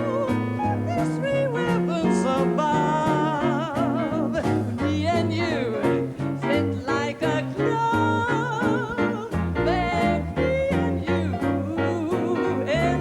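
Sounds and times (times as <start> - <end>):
swing jazz: 0.0 - 13.0
walking bass: 0.0 - 13.0.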